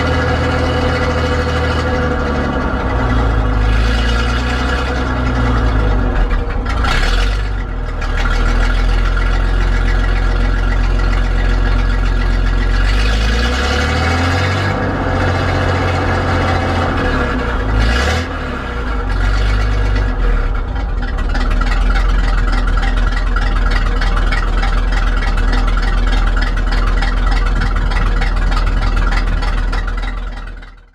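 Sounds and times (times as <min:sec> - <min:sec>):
truck engine running: 0:00.0 - 0:30.9.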